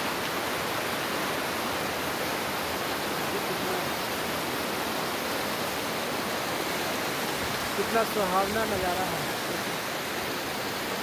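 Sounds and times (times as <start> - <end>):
river rapids rushing over rocks: 0.0 - 11.0.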